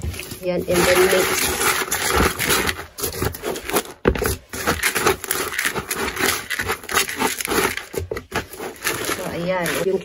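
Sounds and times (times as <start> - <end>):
hand stirring gritty soil: 0.0 - 10.0.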